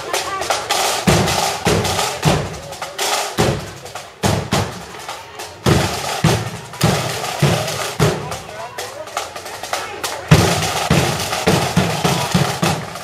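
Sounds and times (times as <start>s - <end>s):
snare drums: 0.0s - 13.0s.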